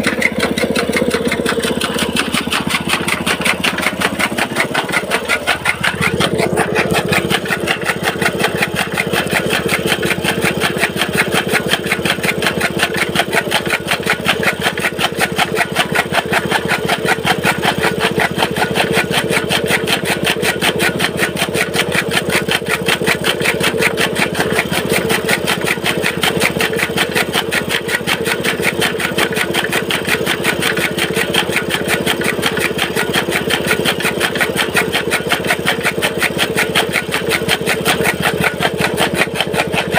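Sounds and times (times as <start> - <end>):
chaff cutter chopping fodder: 0.0 - 39.9
petrol engine running under load: 0.0 - 39.9.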